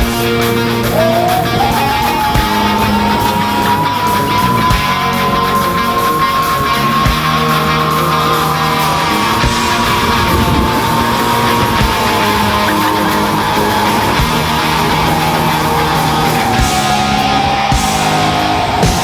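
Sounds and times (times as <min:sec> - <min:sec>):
loud heavy rock music: 0:00.0 - 0:19.0
steady whine sinking in pitch: 0:00.0 - 0:19.0.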